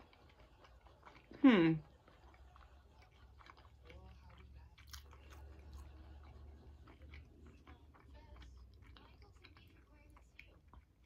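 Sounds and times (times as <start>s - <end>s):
chewing food: 0.0s - 11.0s
low steady hum: 0.0s - 11.0s.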